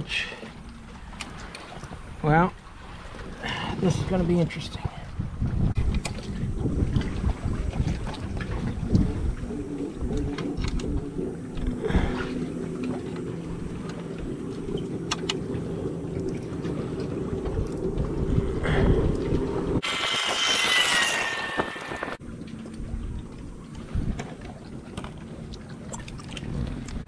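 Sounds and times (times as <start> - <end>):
wind rumble on microphone: 0.9 - 27.0
steady low hum: 5.3 - 27.0.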